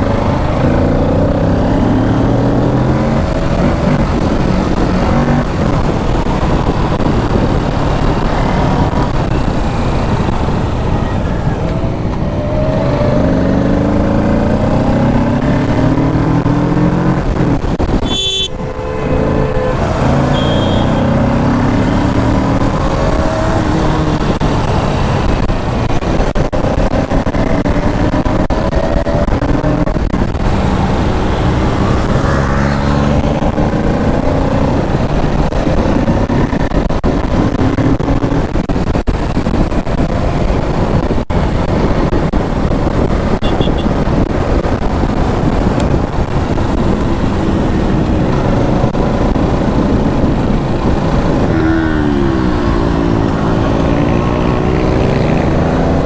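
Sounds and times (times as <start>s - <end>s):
motorcycle engine revving: 0.0s - 56.0s
wind noise rushing: 0.0s - 56.0s.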